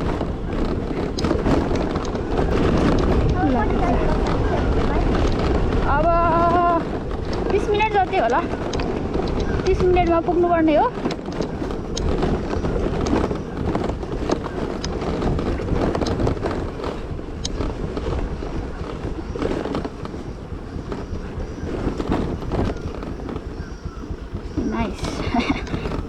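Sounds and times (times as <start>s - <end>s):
knocks and rattles from bumps: 0.0s - 26.0s
scooter engine: 0.0s - 26.0s
tyre noise: 0.0s - 26.0s
wind buffeting microphone: 0.0s - 26.0s.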